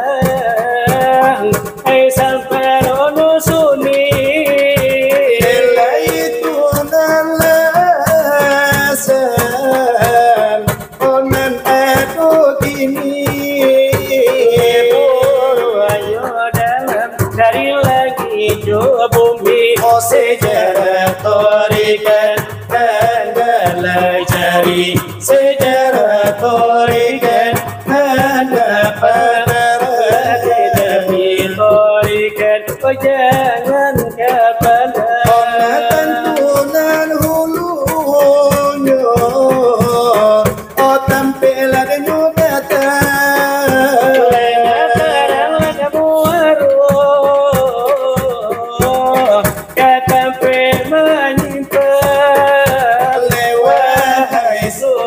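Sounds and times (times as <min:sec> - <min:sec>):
hands beating brass trays: 0:00.0 - 0:55.0
men singing devotional verses: 0:00.0 - 0:55.0.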